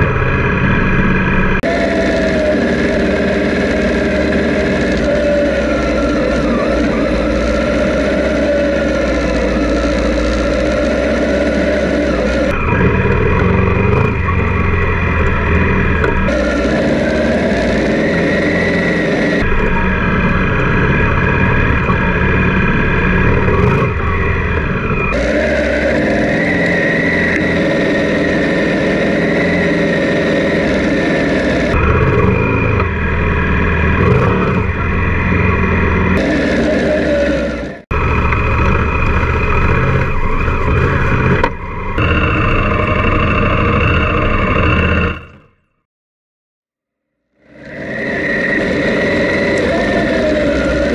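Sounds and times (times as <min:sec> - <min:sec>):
motorcycle engine running: 0:00.0 - 0:45.8.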